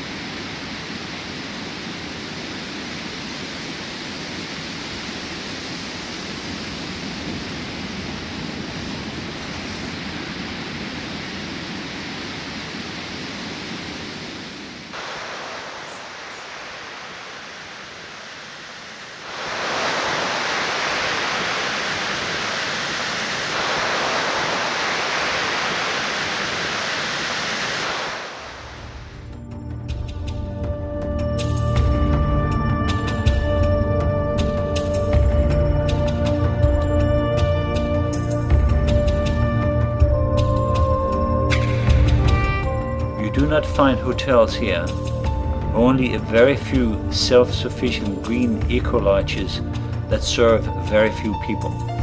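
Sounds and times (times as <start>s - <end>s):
ocean surf rushing: 0.0s - 29.4s, 34.5s - 52.0s.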